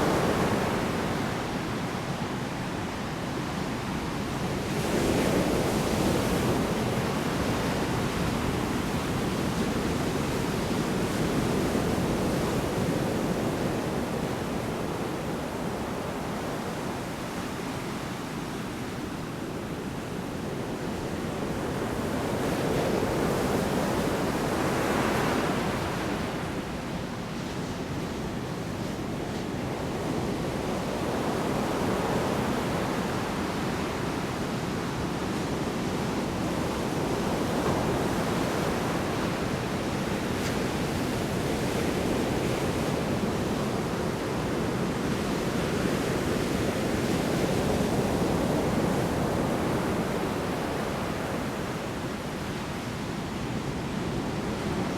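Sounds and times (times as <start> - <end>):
wind: 0.0 - 54.9.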